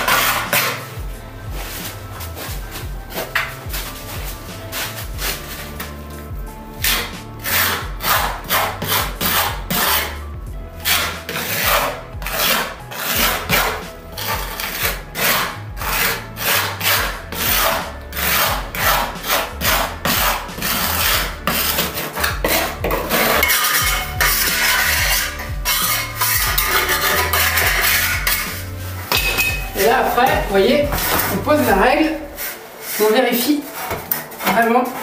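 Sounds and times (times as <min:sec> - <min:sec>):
trowel scraping tile adhesive: 0:00.0 - 0:06.0, 0:06.7 - 0:10.2, 0:10.8 - 0:35.0.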